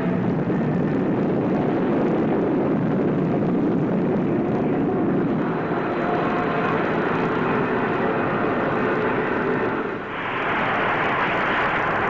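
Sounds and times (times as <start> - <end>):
rocket engine rushing: 0.0 - 12.0.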